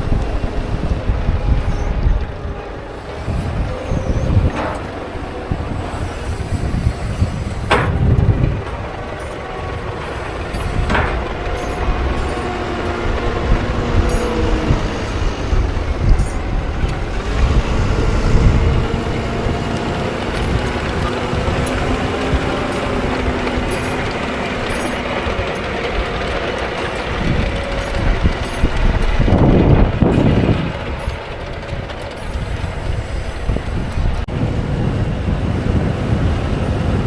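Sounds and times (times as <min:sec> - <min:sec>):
diesel farm machinery engines: 0:00.0 - 0:37.0.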